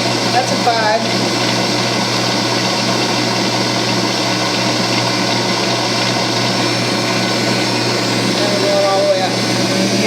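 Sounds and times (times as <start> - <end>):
stand mixer motor running: 0.0 - 10.0.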